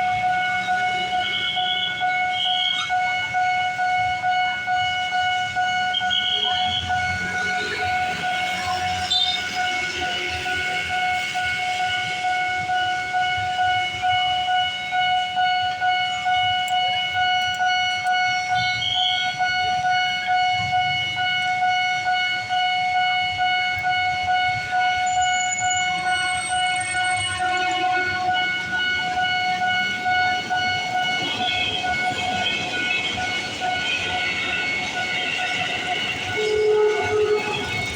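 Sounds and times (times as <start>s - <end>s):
level crossing warning alarm: 0.0s - 37.9s
passing train rumble: 0.0s - 37.9s.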